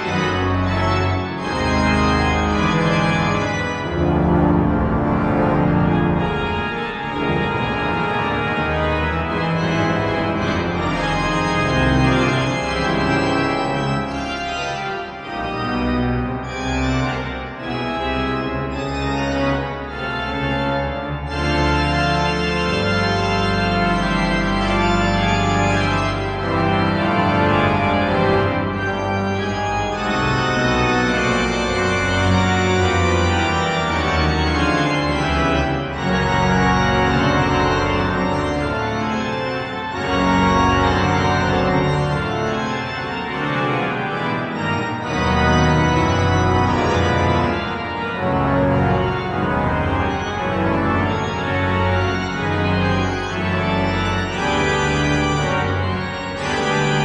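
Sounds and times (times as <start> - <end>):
deep organ pedal notes: 0.0 - 57.0
pipe organ chords: 0.0 - 57.0.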